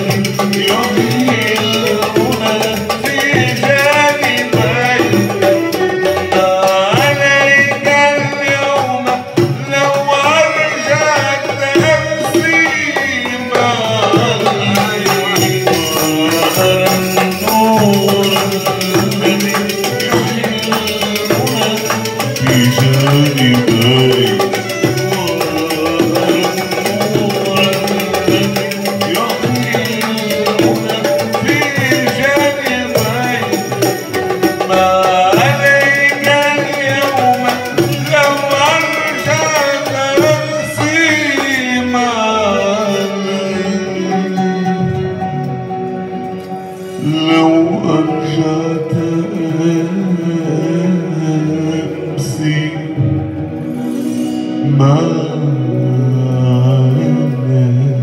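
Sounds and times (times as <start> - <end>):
man singing: 0.0 - 58.0.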